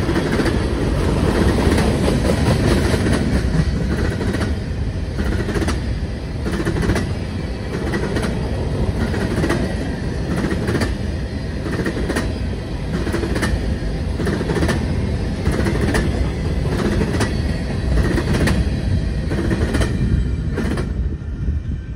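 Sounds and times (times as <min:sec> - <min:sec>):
train wheels clicking over rail joints: 0:00.0 - 0:21.2
low train rumble: 0:00.0 - 0:21.9.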